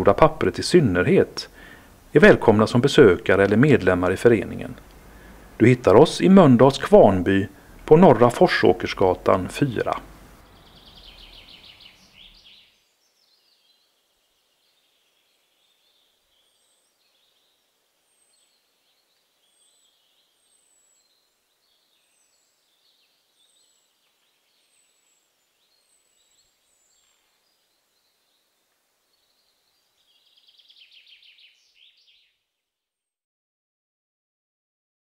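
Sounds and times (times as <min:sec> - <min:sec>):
small birds chirping: 0:00.0 - 0:32.5.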